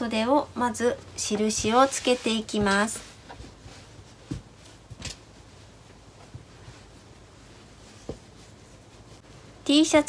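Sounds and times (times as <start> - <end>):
soft fabric rustle: 0.1 - 10.0.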